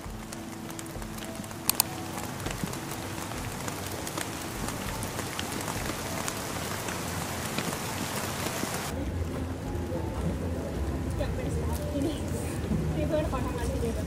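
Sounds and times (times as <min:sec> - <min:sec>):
rain hissing on surfaces: 0:00.0 - 0:14.0
raindrop ticks: 0:00.0 - 0:14.0.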